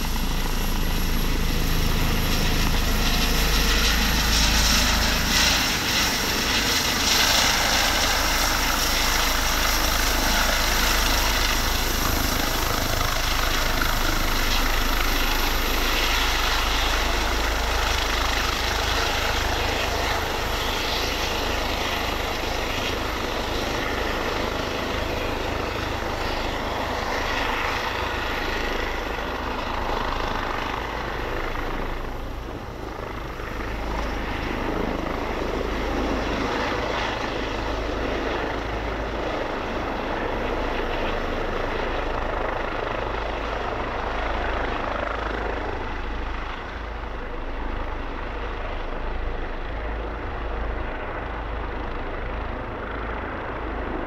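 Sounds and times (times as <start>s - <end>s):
helicopter hovering: 0.0s - 54.0s.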